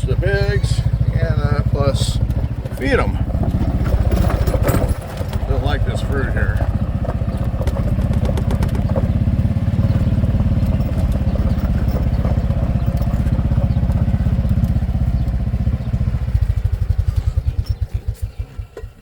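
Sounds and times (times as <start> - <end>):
small engine puttering: 0.0 - 19.0.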